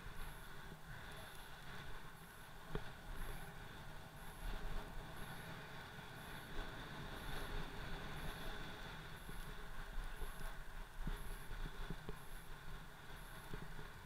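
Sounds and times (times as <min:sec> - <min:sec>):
hiss of riding across snow: 0:00.0 - 0:14.0
wind rushing over microphone: 0:00.0 - 0:14.0.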